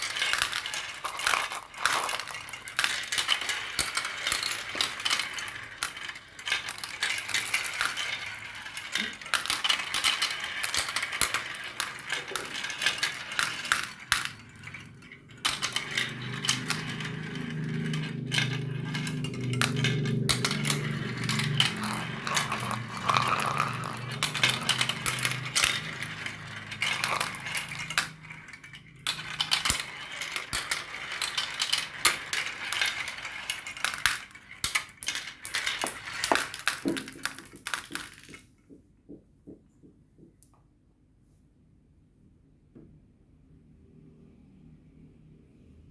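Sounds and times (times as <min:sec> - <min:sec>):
marbles clattering down a track: 0:00.0 - 0:39.6.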